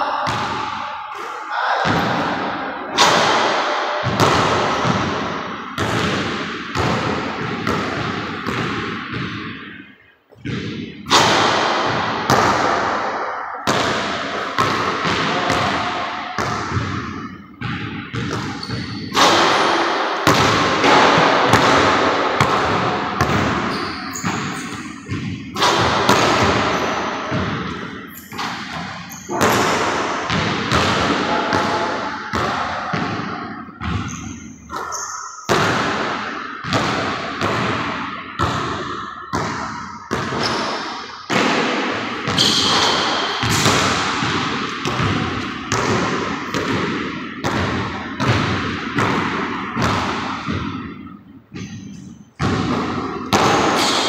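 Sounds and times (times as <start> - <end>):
basketball dribbled on wooden floor: 4.0 - 5.2, 5.8 - 9.6, 13.7 - 40.7, 41.3 - 50.7, 51.5 - 54.0.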